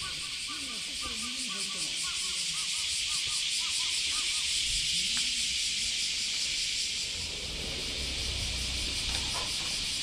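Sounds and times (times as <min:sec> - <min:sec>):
cicadas shrilling: 0:00.0 - 0:10.0.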